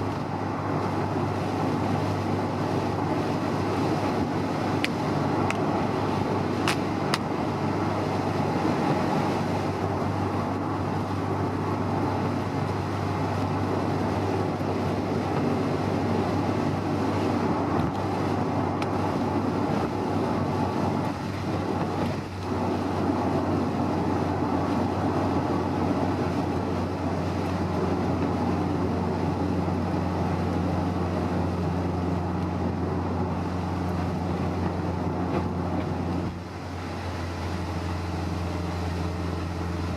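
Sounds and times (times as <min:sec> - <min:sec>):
car engine drone: 0:00.0 - 0:39.9
road and wind rush: 0:00.0 - 0:39.9.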